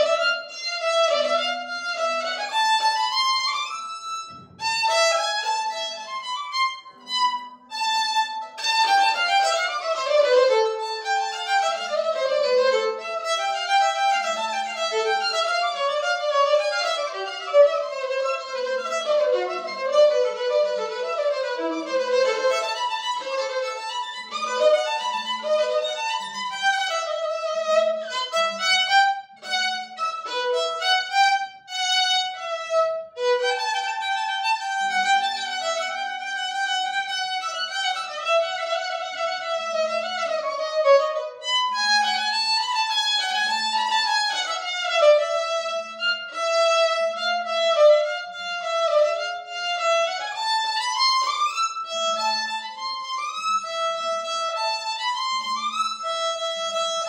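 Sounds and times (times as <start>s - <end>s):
solo violin: 0.0s - 57.0s.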